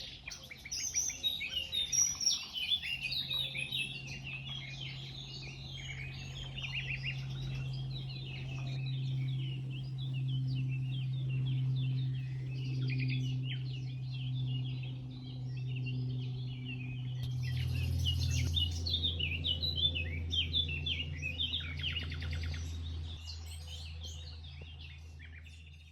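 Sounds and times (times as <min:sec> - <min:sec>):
low steady hum: 0:00.0 - 0:25.9
songbirds chirping and trilling: 0:00.0 - 0:25.9.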